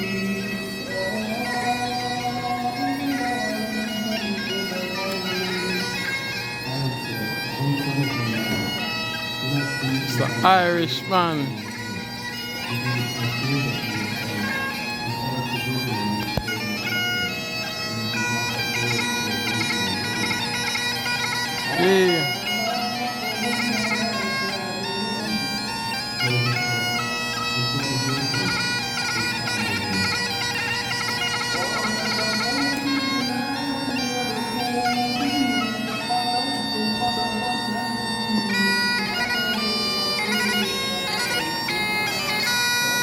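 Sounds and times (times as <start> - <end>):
bagpipes playing a tune: 0.0 - 43.0.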